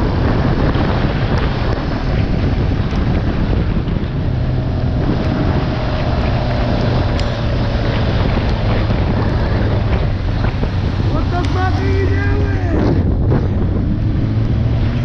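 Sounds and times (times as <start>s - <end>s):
motorcycle engine drone: 0.0s - 15.0s
wind rushing over microphone: 0.0s - 15.0s.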